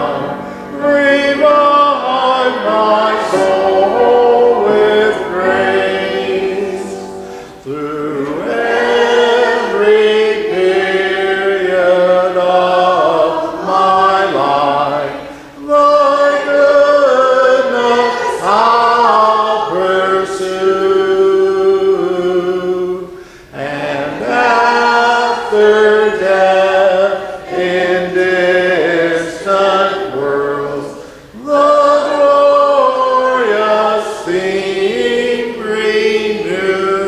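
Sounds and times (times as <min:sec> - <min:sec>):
congregation singing a hymn: 0:00.0 - 0:37.0.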